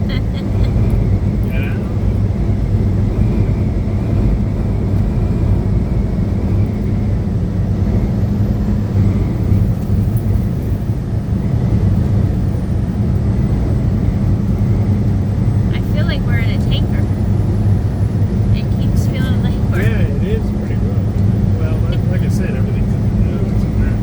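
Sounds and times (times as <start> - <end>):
truck engine drone and road noise: 0.0 - 24.0.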